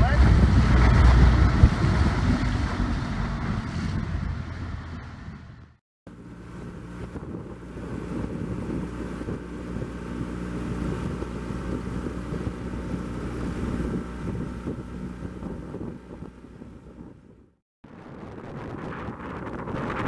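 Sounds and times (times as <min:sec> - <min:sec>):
wind on microphone: 0:00.0 - 0:05.8, 0:06.4 - 0:20.0
boat motor running: 0:00.0 - 0:18.0.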